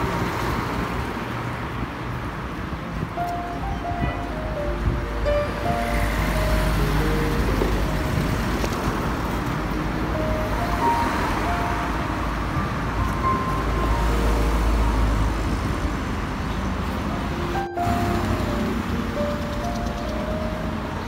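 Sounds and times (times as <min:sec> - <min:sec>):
low traffic rumble: 0:00.0 - 0:21.0
passing cars hissing: 0:02.6 - 0:21.0
faint melody notes: 0:02.9 - 0:08.9, 0:10.0 - 0:21.0.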